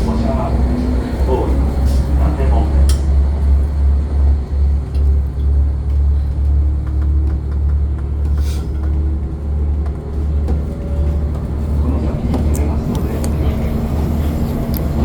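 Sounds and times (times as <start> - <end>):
train engine rumble inside car: 0.0 - 15.0.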